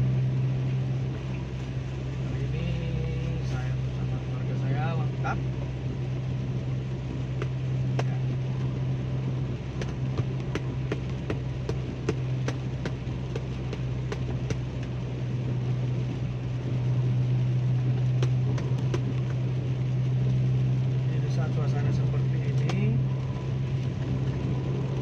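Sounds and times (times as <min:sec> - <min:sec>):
car engine and road drone: 0:00.0 - 0:25.0
rain hiss: 0:00.0 - 0:25.0
rain ticking on car: 0:00.0 - 0:25.0.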